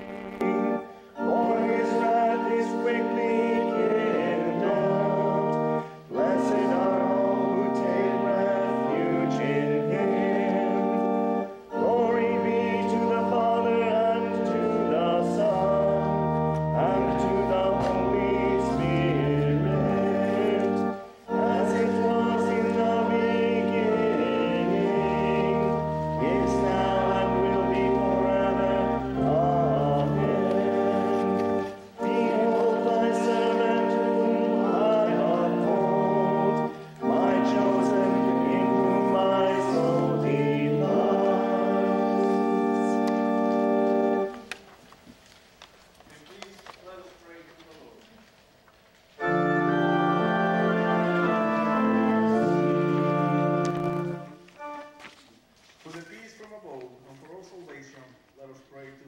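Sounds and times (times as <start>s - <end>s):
congregation chanting liturgy: 0.0s - 44.5s, 49.2s - 55.2s
organ accompaniment: 0.0s - 45.4s, 46.1s - 56.5s.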